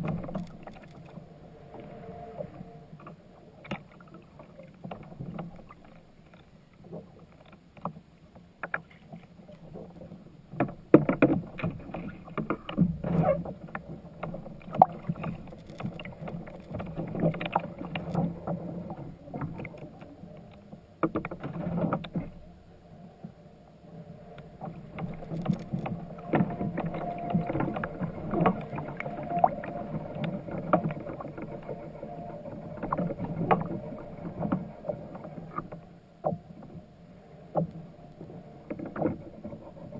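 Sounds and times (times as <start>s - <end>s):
knocks and clicks against hull: 0.0s - 22.4s, 24.3s - 36.9s, 37.5s - 39.9s.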